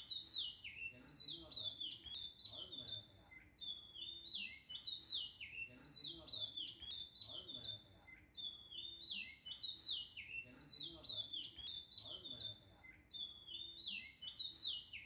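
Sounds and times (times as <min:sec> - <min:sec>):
bird-like chirping calls: 0:00.0 - 0:15.0.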